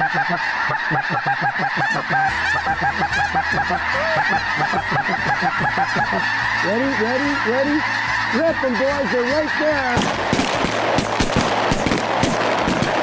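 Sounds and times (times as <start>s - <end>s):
flock of geese calling: 0.0s - 13.0s.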